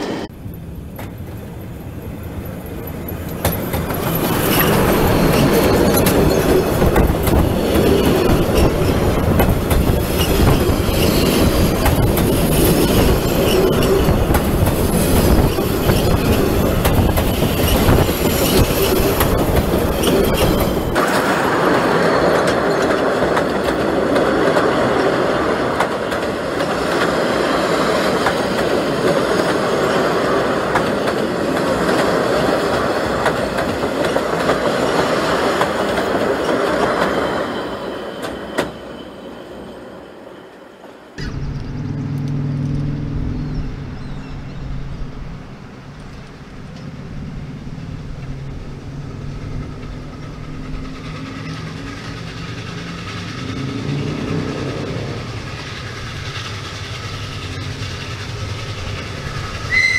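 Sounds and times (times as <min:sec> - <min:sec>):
steam train passing: 0:00.0 - 0:59.9.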